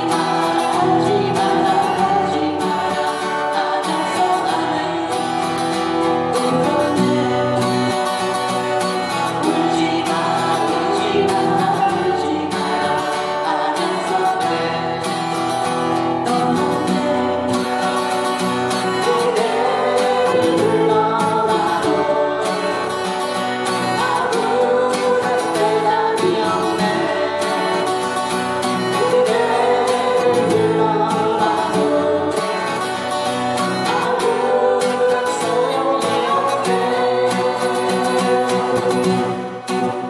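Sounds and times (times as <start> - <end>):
acoustic guitar accompaniment: 0.0 - 40.0
person singing a ballad: 0.0 - 40.0.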